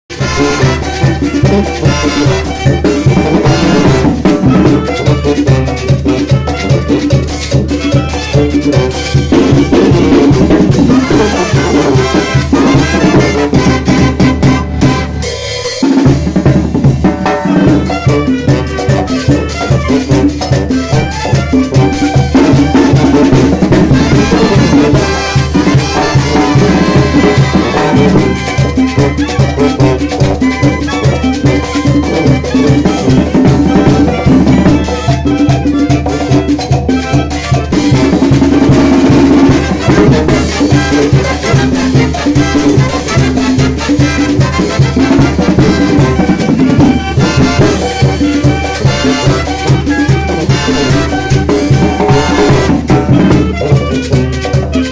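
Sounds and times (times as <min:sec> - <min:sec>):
brass band playing dance music: 0:00.1 - 0:54.9
drums with steady beat: 0:00.1 - 0:54.9.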